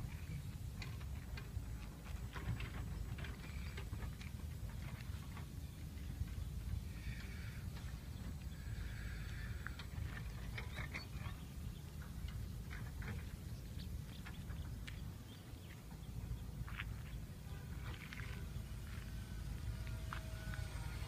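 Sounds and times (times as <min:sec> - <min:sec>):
low steady rumble: 0:00.0 - 0:21.0
small birds chirping: 0:02.3 - 0:19.3.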